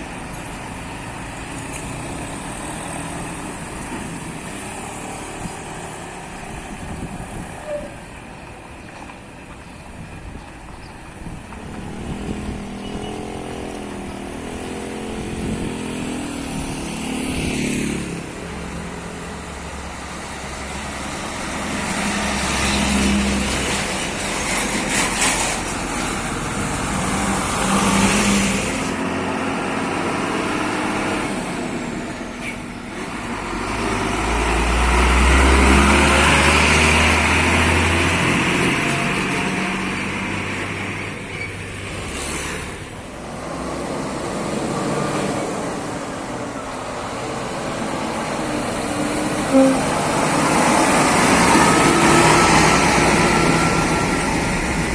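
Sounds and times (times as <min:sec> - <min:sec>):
truck diesel engines running: 0:00.0 - 0:54.9.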